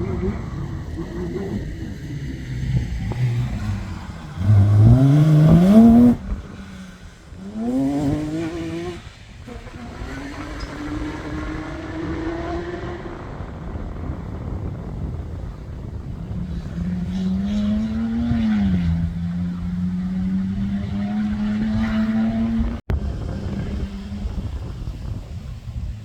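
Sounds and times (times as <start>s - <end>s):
heavy rumble over rough ground: 0.0s - 26.0s
off-road vehicle engine: 0.0s - 26.0s.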